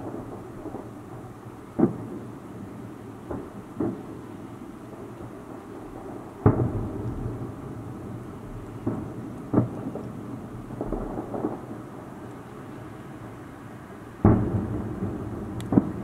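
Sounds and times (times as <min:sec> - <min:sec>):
distant fireworks booming: 0:00.0 - 0:16.0.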